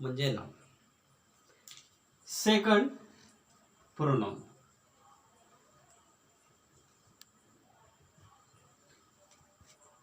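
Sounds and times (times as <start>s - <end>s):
faint high hiss: 0.0s - 10.0s.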